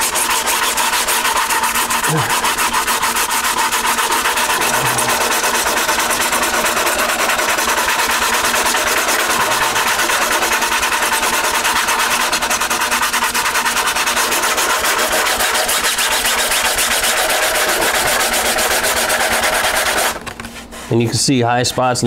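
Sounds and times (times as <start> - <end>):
sandpaper rasping on resin: 0.0 - 20.2.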